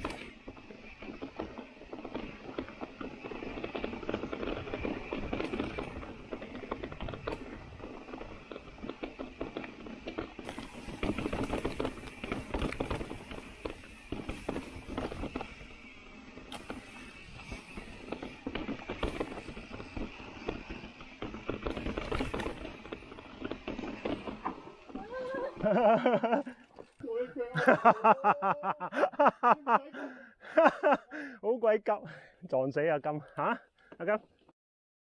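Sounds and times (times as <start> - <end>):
tyres crunching over gravel: 0.0 - 28.1
bike clattering and rattling: 0.0 - 28.3.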